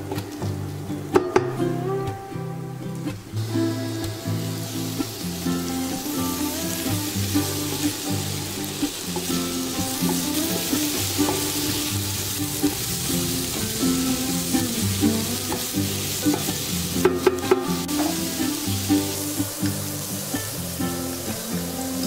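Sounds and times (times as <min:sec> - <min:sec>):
soft background music: 0:00.0 - 0:22.0
vegetables sizzling in a pan: 0:00.0 - 0:22.0.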